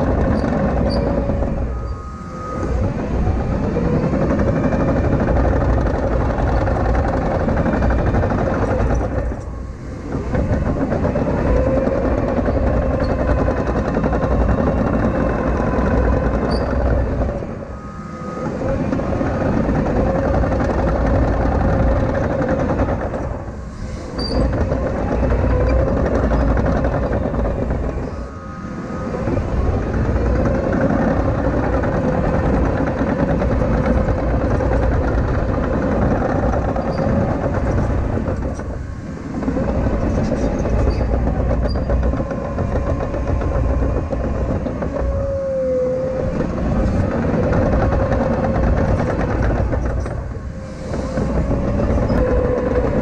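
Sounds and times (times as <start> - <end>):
diesel engine running: 0.0 - 53.0
hydraulic whine: 0.0 - 53.0.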